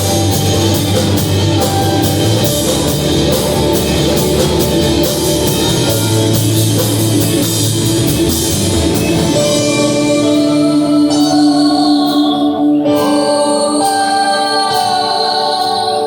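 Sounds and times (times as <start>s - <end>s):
drum kit beat: 0.0s - 13.1s
guitar: 0.0s - 16.0s
rock band music: 0.0s - 16.0s.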